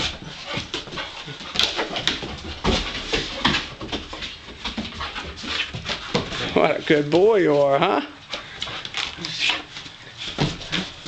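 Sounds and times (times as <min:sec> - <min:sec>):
puppy paws on wooden deck: 0:00.0 - 0:11.0.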